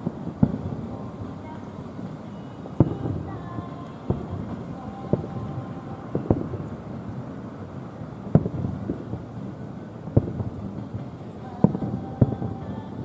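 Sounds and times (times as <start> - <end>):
fireworks bangs with echo: 0.0 - 13.0
low steady rumble: 0.0 - 13.0.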